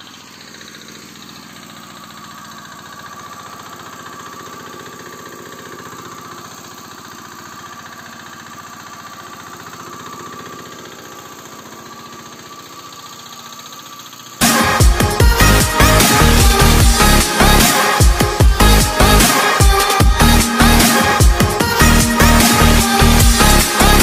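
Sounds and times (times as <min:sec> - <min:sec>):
diesel generator running: 0:00.0 - 0:24.0.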